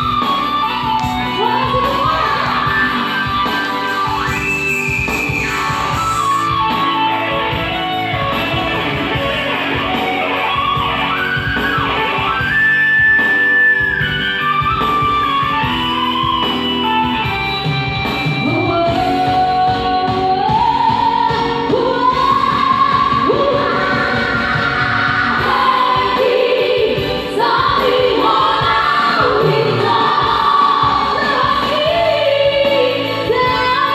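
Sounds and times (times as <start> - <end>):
guitar accompaniment: 0.0 - 33.9.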